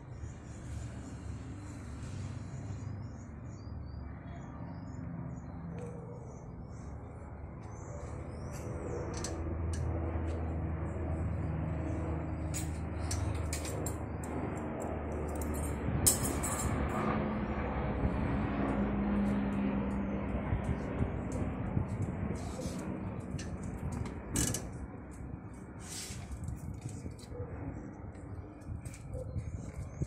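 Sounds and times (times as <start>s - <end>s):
low engine rumble: 0.0s - 30.0s.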